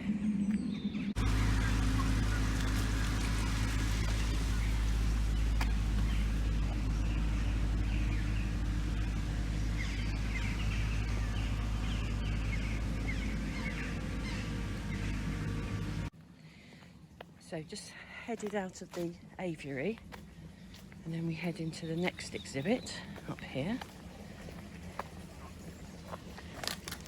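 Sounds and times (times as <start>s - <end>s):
low rumble with faint hum: 0.0s - 27.0s
small birds chirping: 0.4s - 27.0s.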